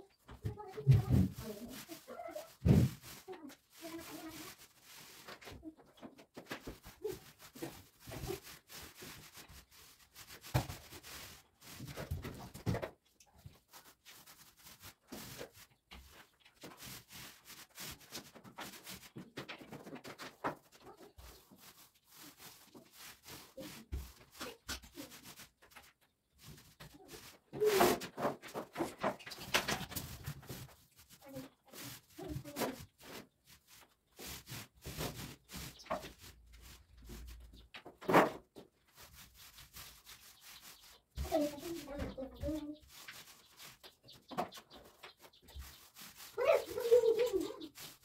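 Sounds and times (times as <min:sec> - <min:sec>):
paint roller rolling on a wall: 0:00.1 - 0:48.0.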